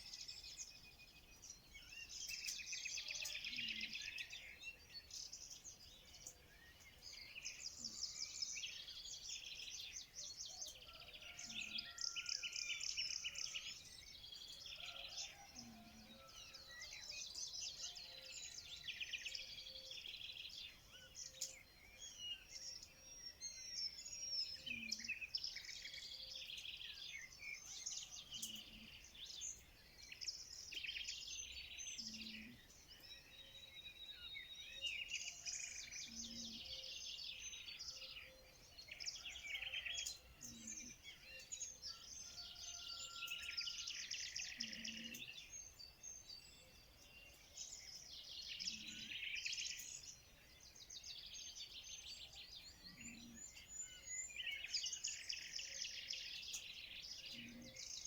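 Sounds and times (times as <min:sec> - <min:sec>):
songbird chorus: 0:00.0 - 0:58.0.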